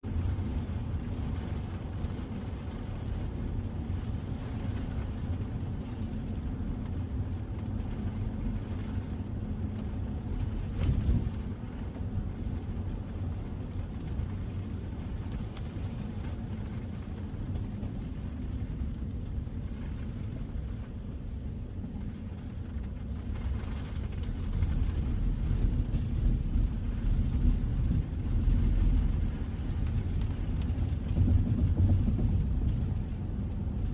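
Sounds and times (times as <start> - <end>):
pickup truck road and engine rumble: 0.0 - 33.9.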